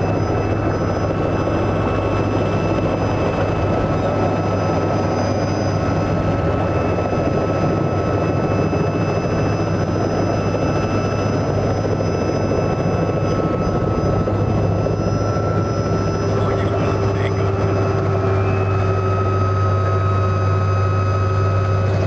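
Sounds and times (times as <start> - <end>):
helicopter rotor drone: 0.0 - 22.0
high turbine whine: 0.0 - 22.0.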